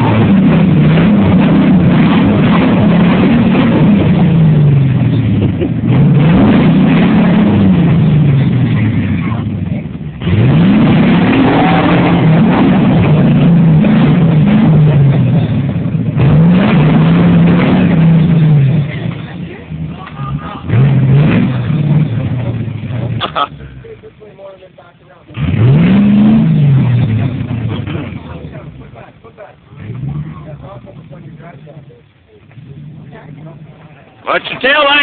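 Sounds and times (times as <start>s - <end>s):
engine revving hard: 0.0s - 23.8s, 25.3s - 29.1s, 29.7s - 35.0s.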